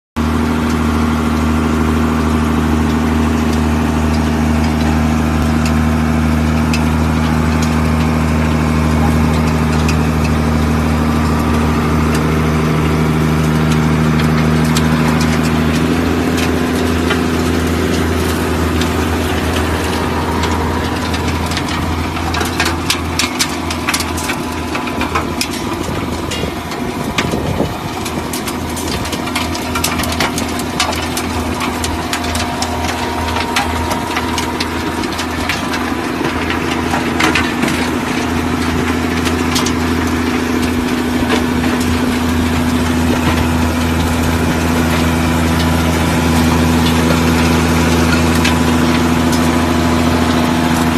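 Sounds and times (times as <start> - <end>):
tractor engine running: 0.2 - 50.9.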